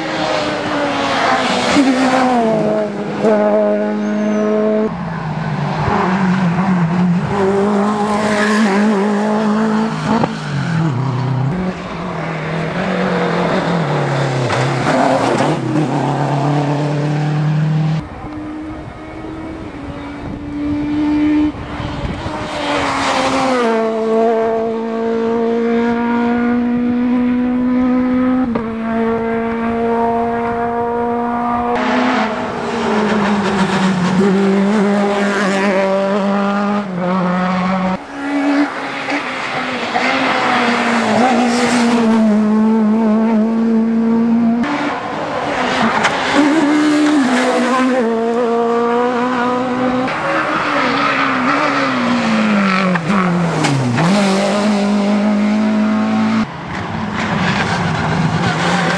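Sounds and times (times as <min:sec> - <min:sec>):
rally car engines revving: 0:00.0 - 0:58.9.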